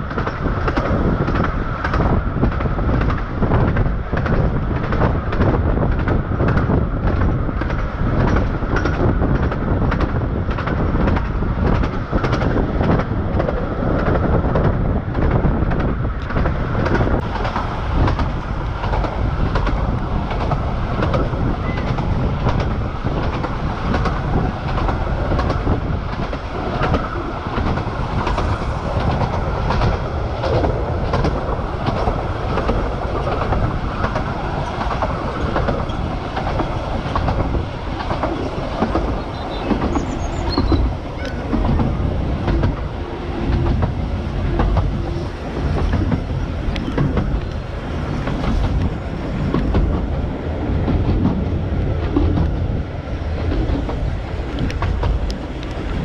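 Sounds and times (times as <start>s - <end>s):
train rumbling: 0.0s - 56.0s
wheels clicking over rail joints: 0.0s - 56.0s.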